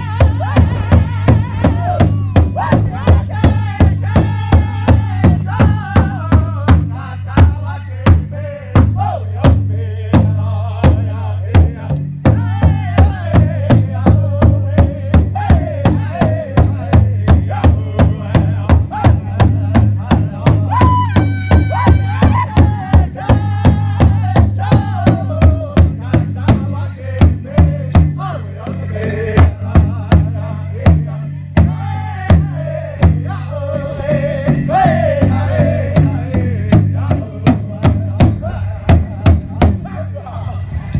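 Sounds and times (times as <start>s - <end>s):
large drum steady beat: 0.0s - 40.2s
singers chanting in high voices: 0.0s - 40.4s.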